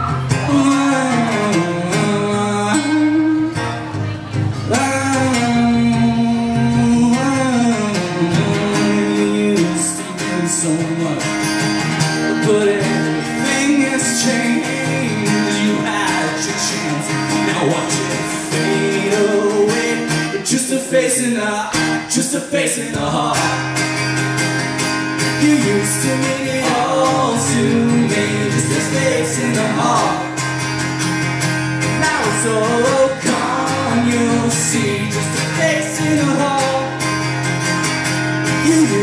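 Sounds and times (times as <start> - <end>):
acoustic guitar strumming: 0.0 - 39.0
man singing: 0.1 - 3.8, 4.6 - 11.4, 12.2 - 23.9, 25.3 - 30.5, 31.9 - 37.1, 38.5 - 39.0.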